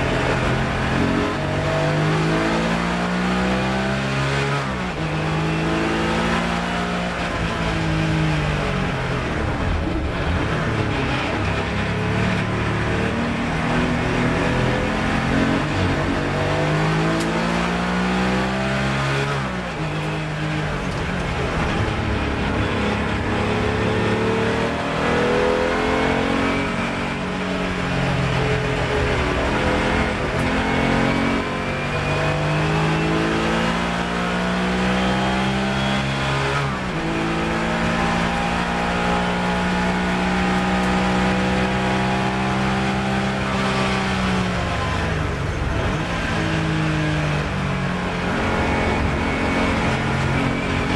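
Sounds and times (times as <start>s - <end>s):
race car engine accelerating: 0.0s - 50.9s.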